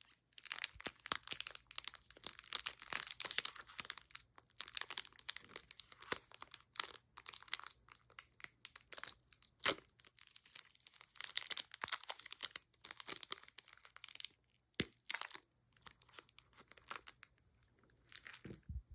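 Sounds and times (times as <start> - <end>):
plastic packaging crinkling: 0.0 - 18.7.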